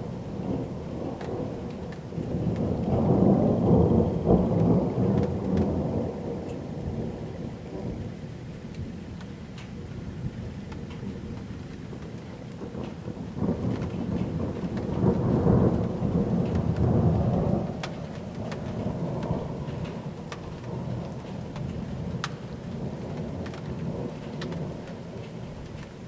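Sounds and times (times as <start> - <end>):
raindrops ticking: 0.0 - 26.0
rolling thunder: 0.0 - 26.0.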